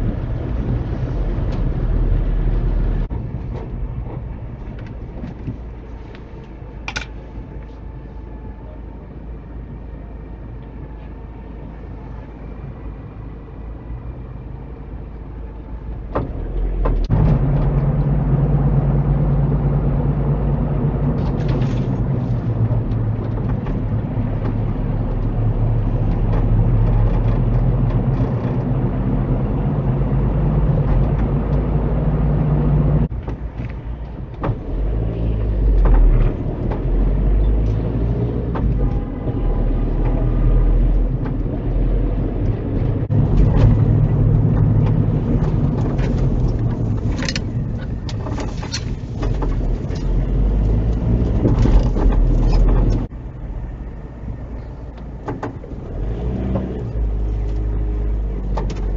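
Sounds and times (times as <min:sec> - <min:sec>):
car engine hum: 0:00.0 - 0:58.9
road rumble: 0:00.0 - 0:58.9.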